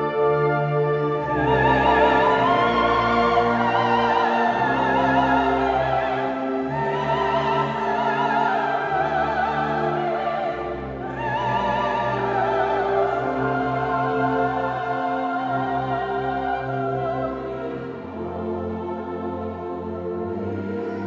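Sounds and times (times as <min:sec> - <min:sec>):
wind band sustained chords: 0:00.0 - 0:21.0
soprano singing with vibrato: 0:01.3 - 0:19.7.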